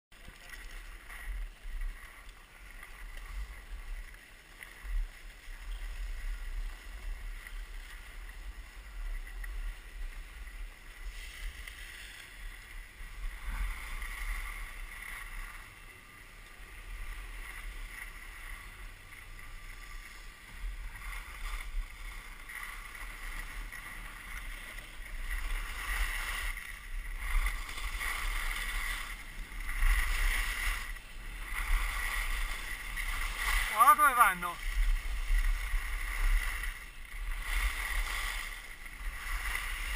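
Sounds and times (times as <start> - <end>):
skis scraping over snow: 0.2 - 39.9
wind rumbling on microphone: 0.2 - 39.9.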